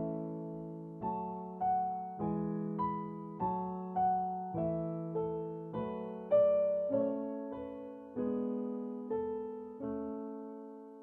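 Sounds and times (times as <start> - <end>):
slow solo piano: 0.0 - 11.0.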